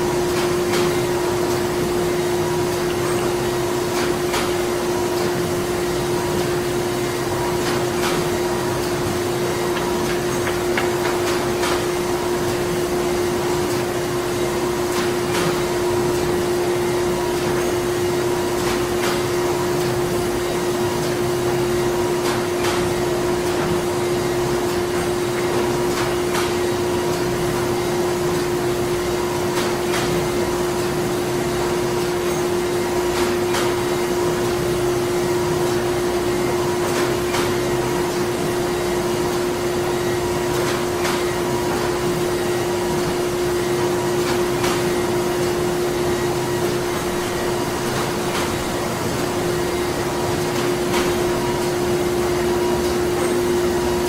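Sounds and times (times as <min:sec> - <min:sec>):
machinery humming drone: 0:00.0 - 0:54.0.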